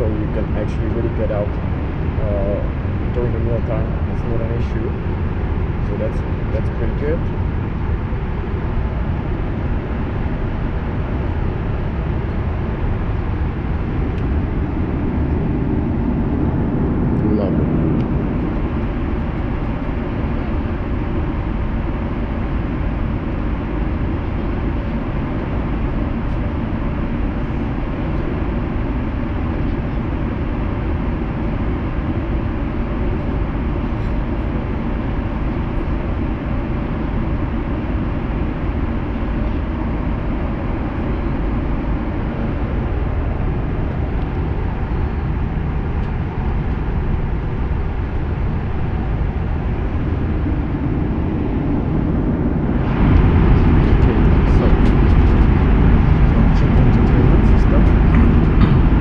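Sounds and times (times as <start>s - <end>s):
airplane cabin low rush: 0.0s - 59.0s.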